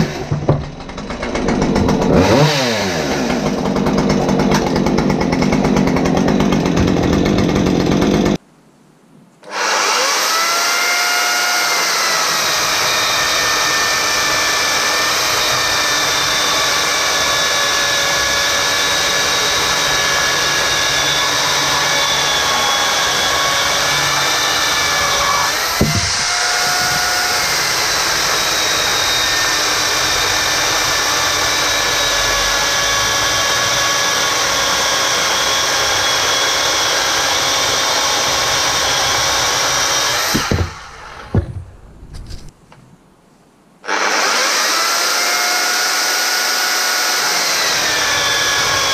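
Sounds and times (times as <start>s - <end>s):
electric chainsaw cutting log: 0.0s - 8.4s, 9.4s - 41.6s, 43.8s - 48.9s
gasoline chainsaw running: 0.0s - 8.4s, 9.5s - 41.4s, 43.8s - 48.9s.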